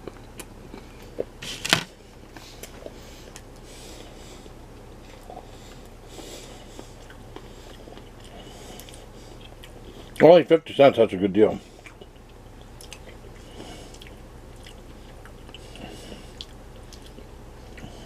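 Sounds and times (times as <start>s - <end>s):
person chewing granola bar: 0.0s - 4.2s, 4.8s - 10.3s, 11.7s - 18.0s.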